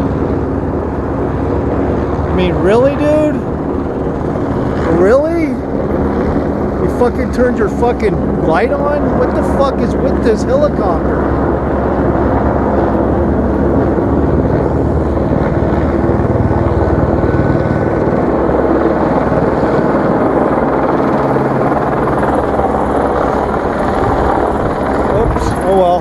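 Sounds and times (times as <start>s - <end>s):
helicopter flying low overhead: 0.0s - 26.0s.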